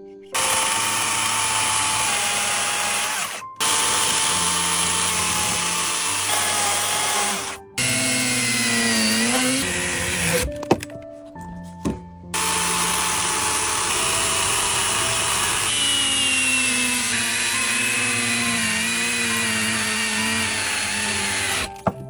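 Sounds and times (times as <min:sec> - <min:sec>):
power tool cutting wood: 0:00.3 - 0:10.9, 0:12.4 - 0:21.9.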